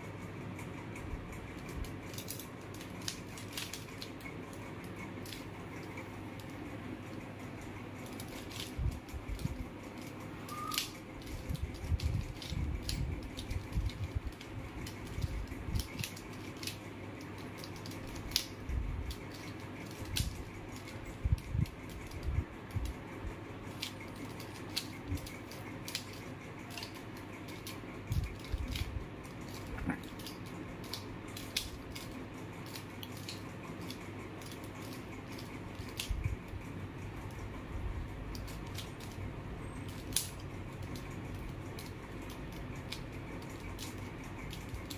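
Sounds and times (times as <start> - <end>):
puzzle cube clicking: 1.6 - 6.7, 8.0 - 23.0, 23.7 - 36.4, 38.1 - 44.9.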